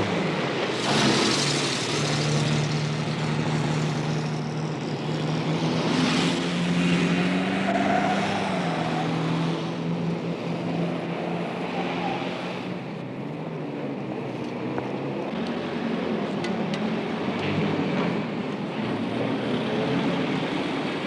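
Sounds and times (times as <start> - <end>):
heavy road traffic: 0.0 - 21.0
vehicles passing: 0.0 - 21.0.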